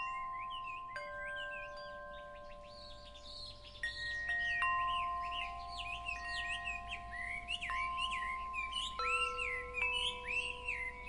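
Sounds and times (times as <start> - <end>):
birds chirping: 0.0 - 11.0
wind chimes ringing: 0.0 - 11.0.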